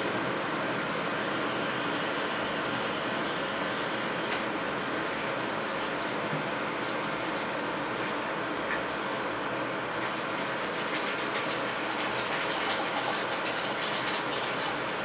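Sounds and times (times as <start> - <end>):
film projector whirring: 0.0 - 15.0.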